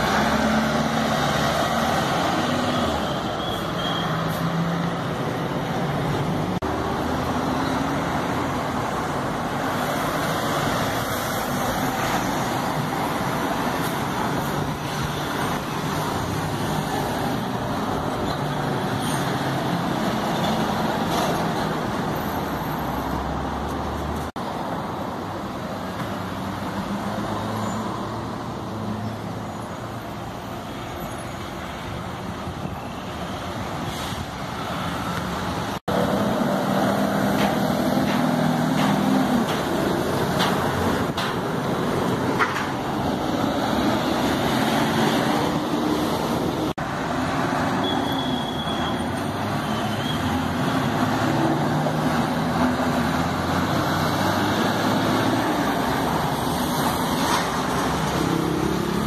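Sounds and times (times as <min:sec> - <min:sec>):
buses and cars driving past: 0:00.0 - 0:59.0.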